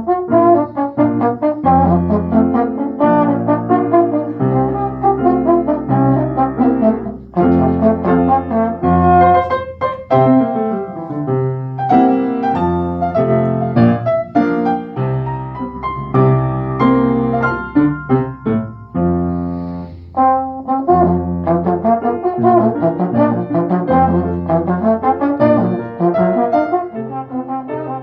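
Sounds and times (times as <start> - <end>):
brass melody: 0.0 - 28.0
piano accompaniment: 0.0 - 28.0.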